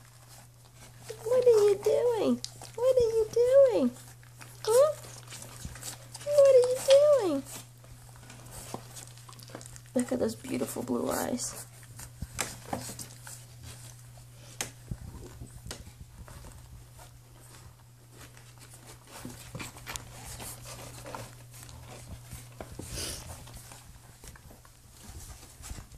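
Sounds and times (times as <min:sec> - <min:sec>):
puppies rustling and clicking: 0:00.0 - 0:25.9.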